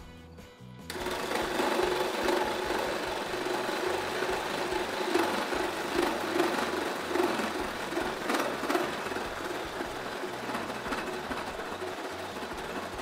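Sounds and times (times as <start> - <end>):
reciprocating saw cutting wood: 0.9 - 13.0.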